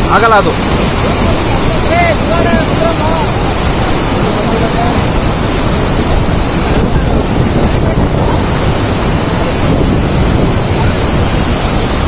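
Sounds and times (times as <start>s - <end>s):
waterfall rushing: 0.0s - 12.0s
wind buffeting microphone: 0.0s - 12.0s.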